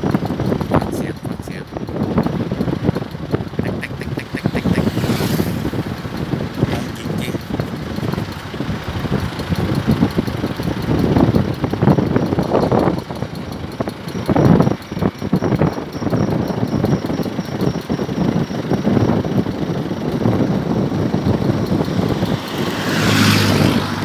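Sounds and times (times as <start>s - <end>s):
car road noise rumble: 0.0s - 24.0s
wheel popping noise: 0.0s - 24.0s.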